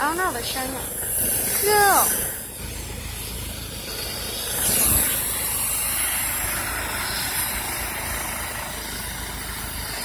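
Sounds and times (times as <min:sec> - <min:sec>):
low engine rumble: 0:00.0 - 0:10.0
tyres hissing through wet snow: 0:00.0 - 0:10.0.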